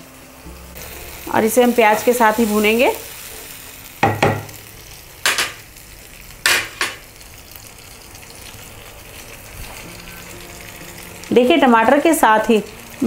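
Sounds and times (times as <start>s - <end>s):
onion frying in oil: 0.0s - 13.0s.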